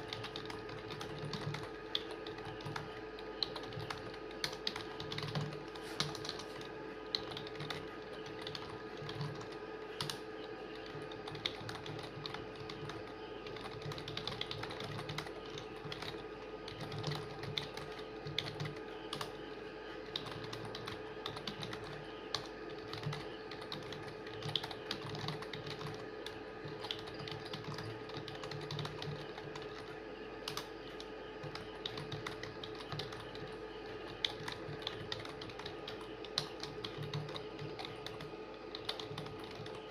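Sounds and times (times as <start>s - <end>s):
fast keyboard typing: 0.0s - 39.9s
steady low hum: 0.0s - 39.9s.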